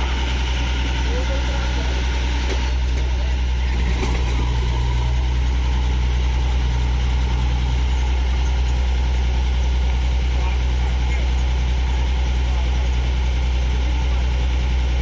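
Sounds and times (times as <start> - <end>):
large engine idling: 0.0 - 15.0.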